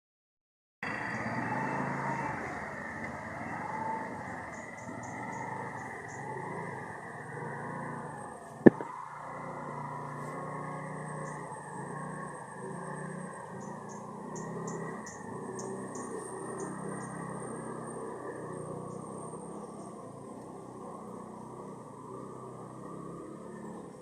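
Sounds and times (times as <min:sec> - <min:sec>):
wavering tone: 0:00.9 - 0:24.0.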